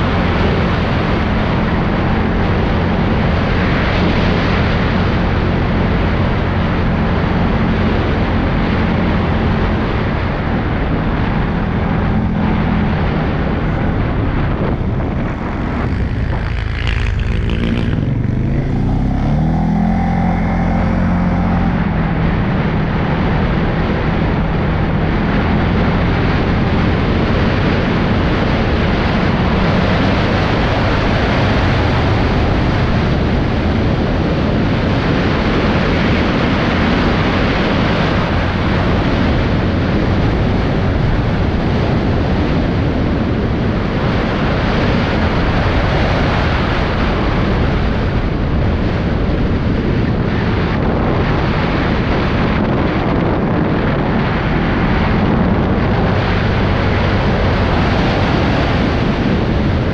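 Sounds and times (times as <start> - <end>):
atv engine running: 0.0 - 59.9
wind rushing over microphone: 0.0 - 59.9.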